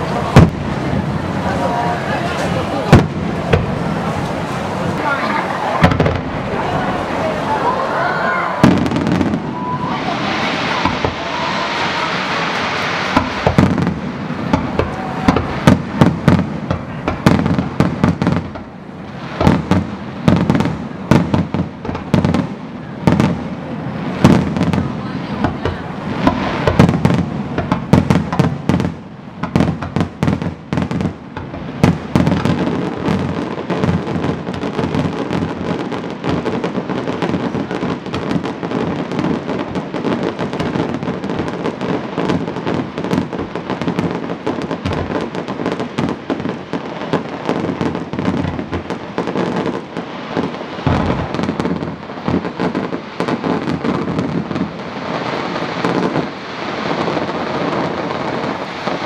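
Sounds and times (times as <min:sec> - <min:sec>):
firework bangs: 0:00.0 - 0:59.0
firework crackling: 0:00.0 - 0:59.0.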